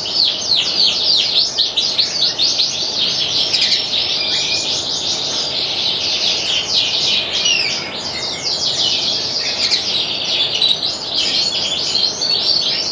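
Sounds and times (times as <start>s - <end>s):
canary singing: 0.0s - 12.9s.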